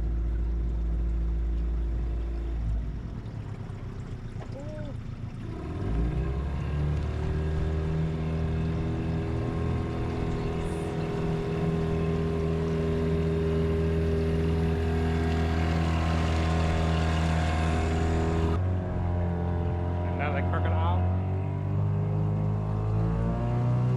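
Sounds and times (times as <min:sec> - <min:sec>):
motorboat engine running: 0:00.0 - 0:23.9.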